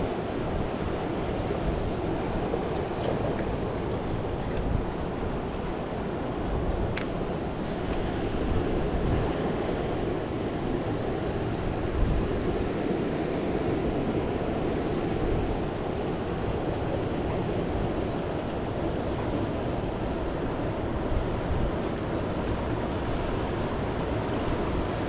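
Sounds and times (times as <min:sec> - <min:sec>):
river rushing over rapids: 0:00.0 - 0:25.0
wind rumble on microphone: 0:00.0 - 0:25.0.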